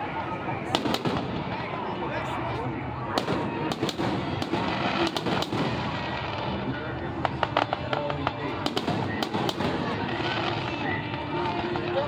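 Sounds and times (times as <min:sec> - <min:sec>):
fireworks popping and banging: 0:00.6 - 0:01.9, 0:03.1 - 0:12.0.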